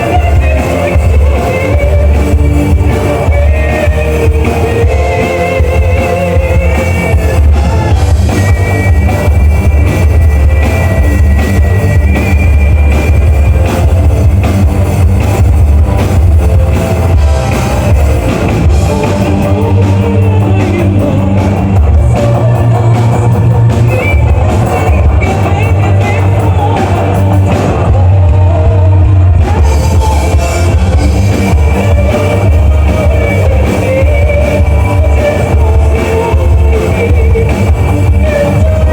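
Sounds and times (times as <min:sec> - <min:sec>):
loud rock music: 0:00.0 - 0:38.9.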